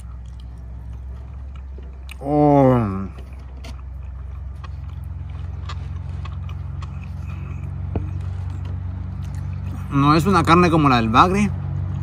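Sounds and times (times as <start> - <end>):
person chewing food: 0.0 - 9.9.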